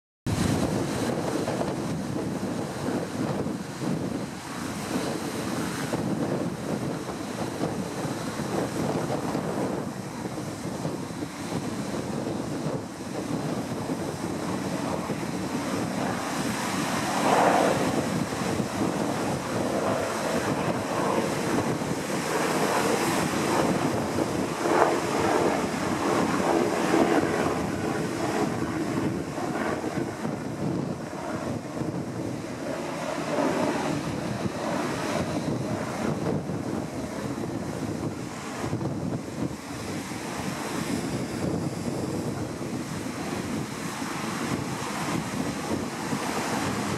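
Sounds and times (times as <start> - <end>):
breaking surf: 0.3 - 46.9
wind on microphone: 0.3 - 46.9.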